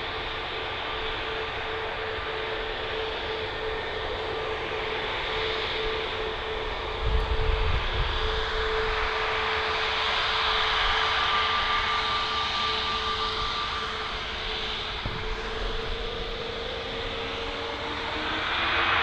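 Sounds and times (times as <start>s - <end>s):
higher whine: 0.0s - 19.0s
jet engines running: 0.0s - 19.0s.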